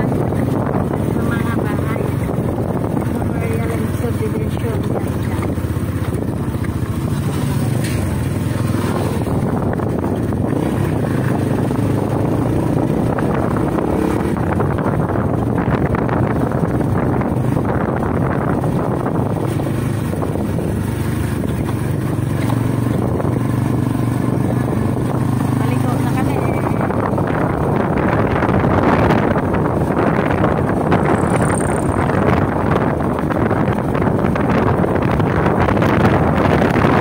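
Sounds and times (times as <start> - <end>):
road noise: 0.0 - 37.0
vehicle engine drone: 0.0 - 37.0.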